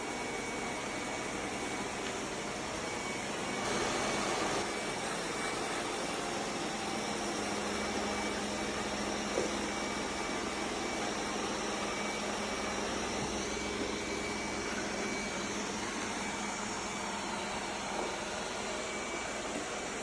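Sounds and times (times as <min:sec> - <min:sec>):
robot vacuum fan whirring: 0:00.0 - 0:20.0.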